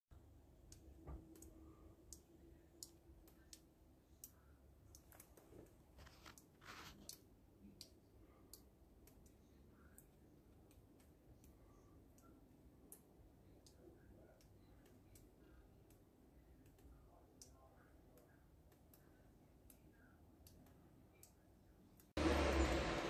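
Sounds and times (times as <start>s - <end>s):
faint irregular clicks: 0.2s - 22.2s.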